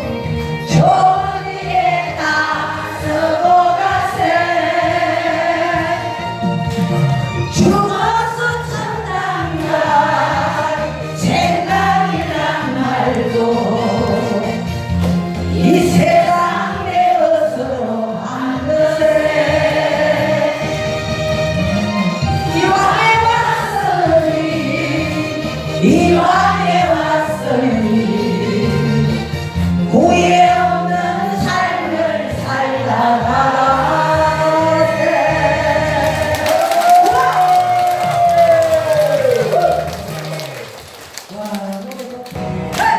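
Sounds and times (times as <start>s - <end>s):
trot song accompaniment: 0.1s - 42.9s
voices singing together: 0.7s - 6.7s, 7.5s - 40.6s.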